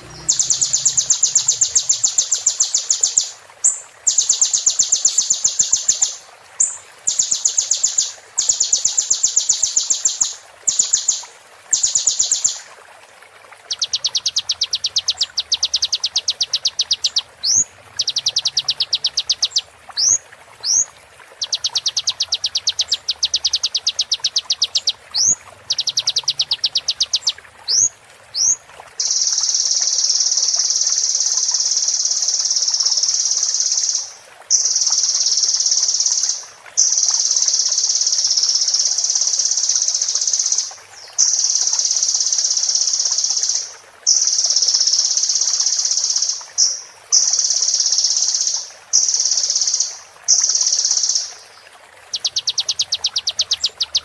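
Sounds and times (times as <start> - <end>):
sunbird ticking trills: 0.0 - 11.2, 13.8 - 45.2, 52.1 - 54.0.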